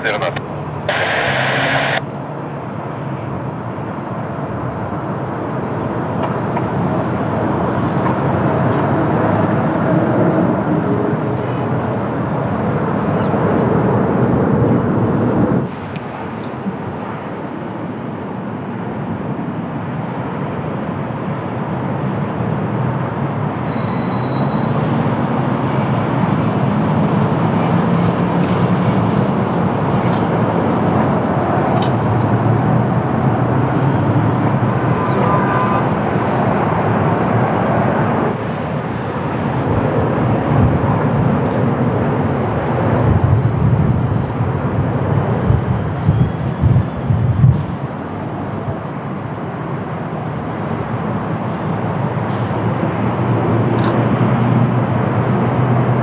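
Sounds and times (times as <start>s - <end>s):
jet engines roaring: 0.0s - 2.1s, 3.4s - 16.2s, 19.1s - 40.8s, 41.6s - 56.0s.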